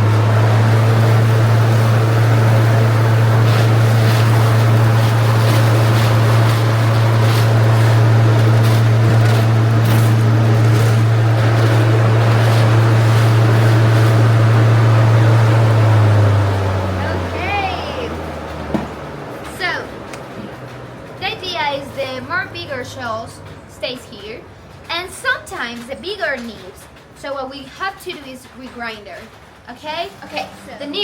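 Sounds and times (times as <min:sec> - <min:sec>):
machine humming: 0:00.0 - 0:27.3.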